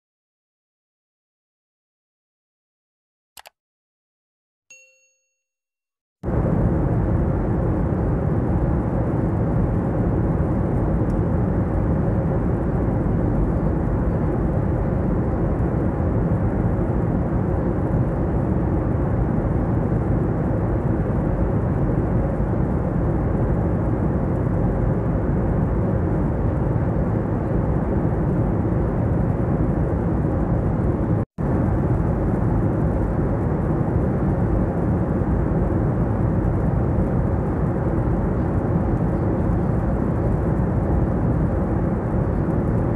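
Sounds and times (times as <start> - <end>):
jet airliner cabin noise: 6.2 - 42.9.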